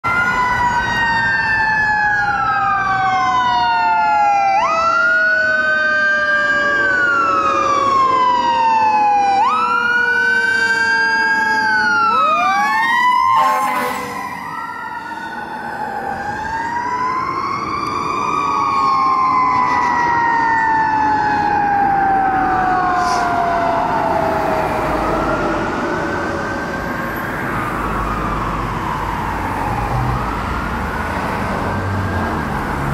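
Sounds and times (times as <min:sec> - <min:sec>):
long falling siren tone: 0:00.0 - 0:32.9
passing traffic: 0:00.0 - 0:32.9
wailing siren: 0:00.0 - 0:32.9.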